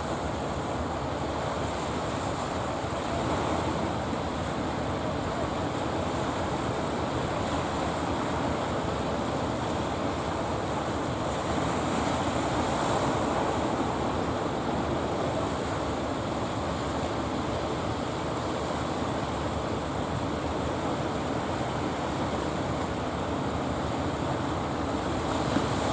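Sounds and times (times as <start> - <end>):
waves breaking: 0.0 - 25.9.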